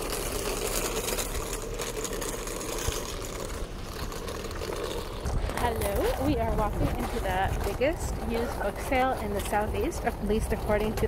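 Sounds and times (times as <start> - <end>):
rolling bag wheels rattling on asphalt: 0.0 - 11.0.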